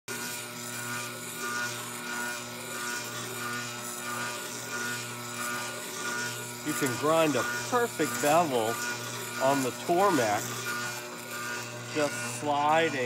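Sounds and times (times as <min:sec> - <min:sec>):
blade grinding against stone: 0:00.1 - 0:13.0
grinder motor hum: 0:00.1 - 0:13.0.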